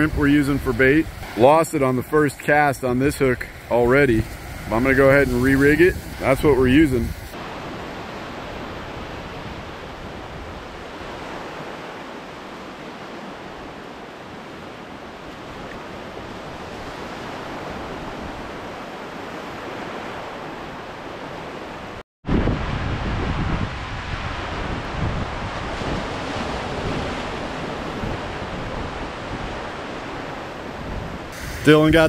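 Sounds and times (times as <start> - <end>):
wind rumbling on microphone: 0.0 - 1.4, 2.9 - 32.0
ocean surf: 0.0 - 32.0.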